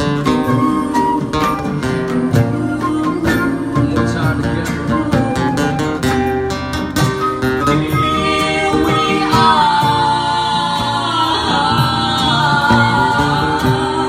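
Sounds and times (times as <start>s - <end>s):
slow melody with bends: 0.0s - 14.0s.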